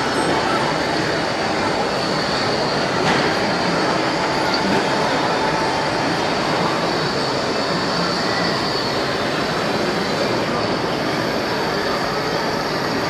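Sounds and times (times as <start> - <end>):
dense background din: 0.0 - 13.0
faint high whine: 0.0 - 13.0
model machines running: 0.0 - 13.0.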